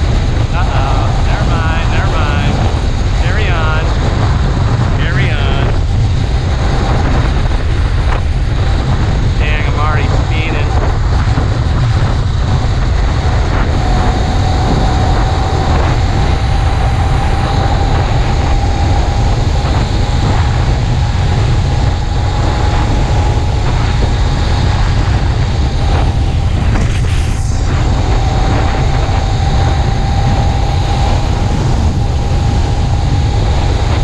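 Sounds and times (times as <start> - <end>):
small engine running steadily: 0.0 - 34.0
steady whine: 0.0 - 34.0
wind rumble on microphone: 0.0 - 34.0.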